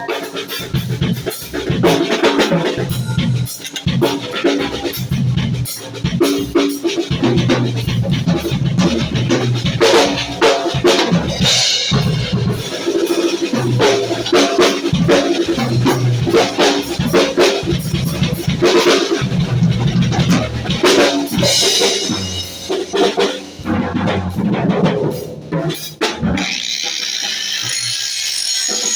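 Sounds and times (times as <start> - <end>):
background music with drum beat: 0.0 - 27.2.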